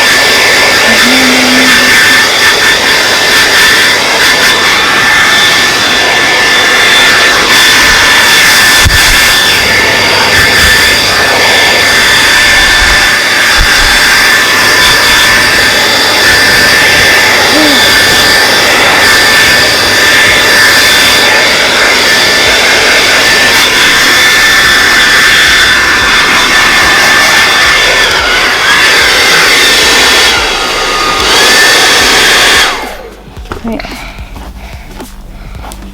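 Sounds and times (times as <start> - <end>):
hair dryer running: 0.0 - 35.9.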